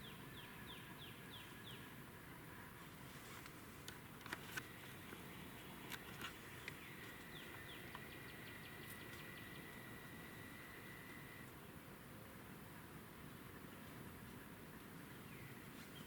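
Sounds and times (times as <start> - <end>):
songbirds chirping: 0.0 - 11.8, 13.2 - 16.0.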